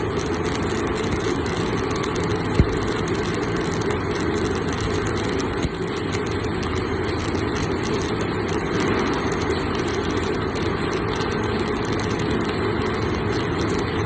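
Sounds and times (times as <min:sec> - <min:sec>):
low engine-like drone: 0:00.0 - 0:14.0
welding crackling hiss: 0:00.0 - 0:14.0.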